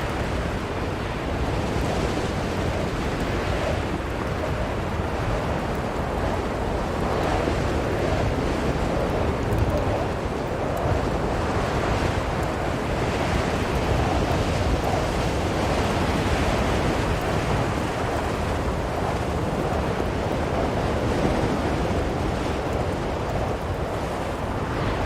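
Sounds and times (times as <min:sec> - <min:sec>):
blizzard wind blowing: 0:00.0 - 0:25.0.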